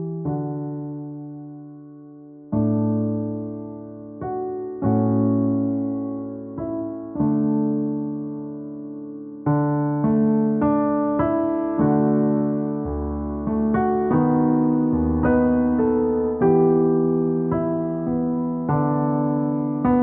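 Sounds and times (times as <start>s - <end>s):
soft electric piano: 0.0s - 20.0s.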